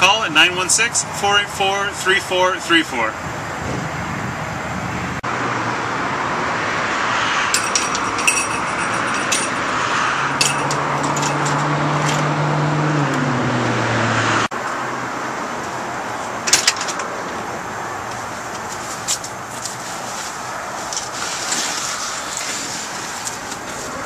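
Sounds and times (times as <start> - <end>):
passing cars: 0.0 - 24.0
vehicle engine hum: 0.0 - 24.0.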